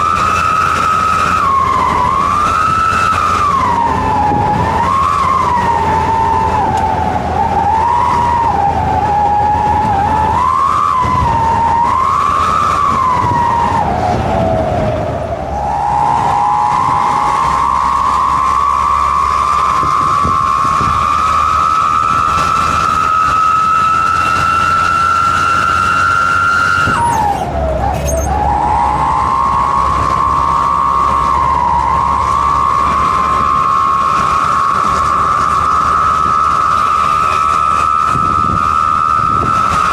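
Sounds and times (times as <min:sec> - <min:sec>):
engine rumble: 0:00.0 - 0:39.9
exhaust whistle siren-like tone: 0:00.0 - 0:39.9.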